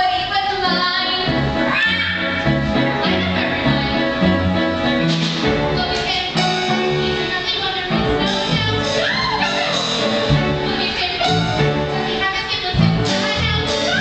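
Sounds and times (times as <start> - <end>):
instrumental stage musical music: 0.0 - 14.0.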